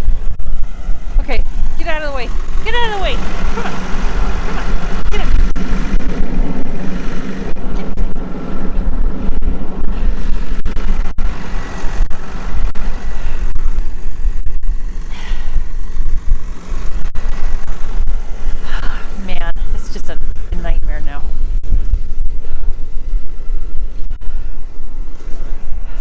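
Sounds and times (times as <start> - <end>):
tractor engine rumbling: 0.0 - 26.0.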